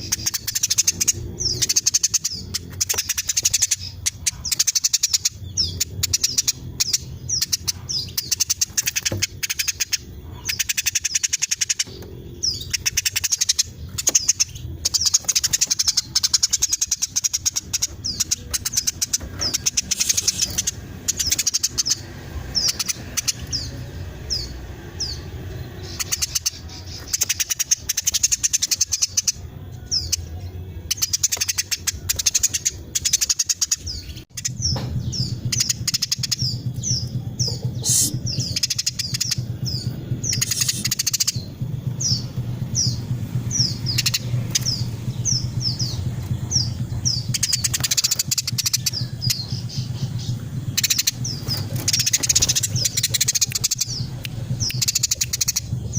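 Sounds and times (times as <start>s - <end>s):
sparrow chirping and trilling: 0.0s - 55.9s.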